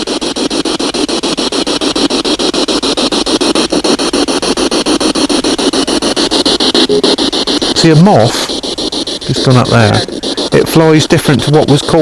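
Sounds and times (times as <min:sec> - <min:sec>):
radio static chopping rapidly: 0:00.0 - 0:12.0.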